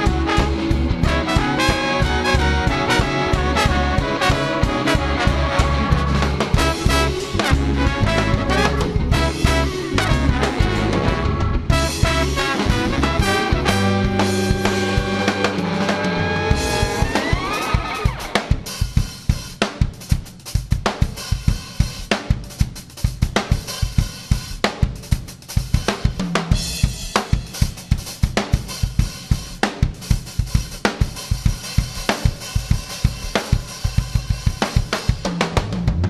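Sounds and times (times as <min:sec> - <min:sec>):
drum kit playing steady beat: 0:00.0 - 0:36.0.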